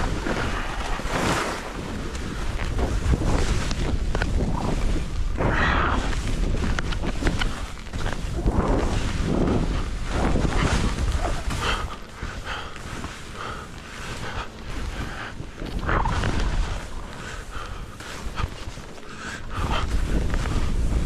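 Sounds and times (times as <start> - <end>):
ski edges clicking and chattering: 0.0 - 21.0
skis swishing and scraping through snow: 0.0 - 21.0
wind rumble on microphone: 0.0 - 21.0.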